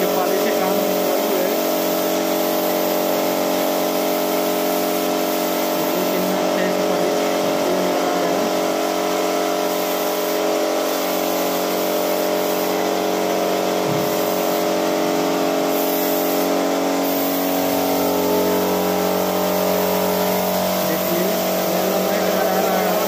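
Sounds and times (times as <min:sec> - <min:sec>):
air compressor running: 0:00.0 - 0:23.0
spray gun hissing: 0:00.0 - 0:23.0.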